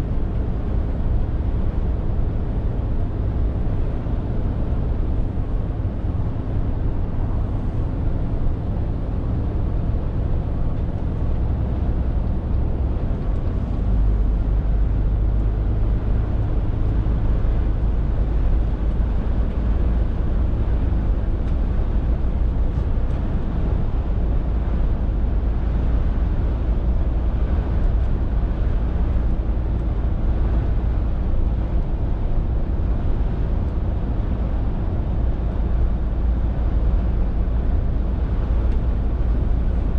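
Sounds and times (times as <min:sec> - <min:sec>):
lorry diesel engine running: 0:00.0 - 0:39.9
road noise: 0:00.0 - 0:39.9.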